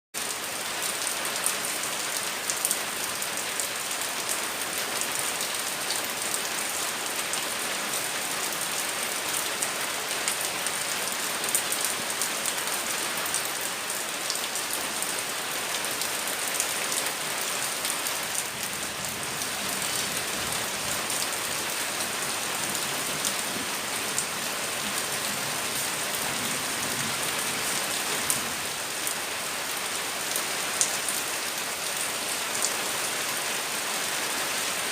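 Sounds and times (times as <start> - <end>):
rain falling steadily: 0.2 - 34.9.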